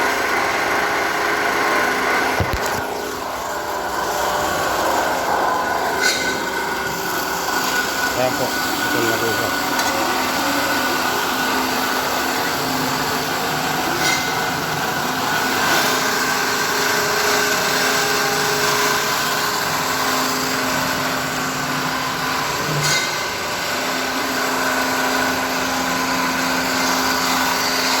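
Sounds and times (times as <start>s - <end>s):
pipe cutting machine running: 0.0s - 28.0s.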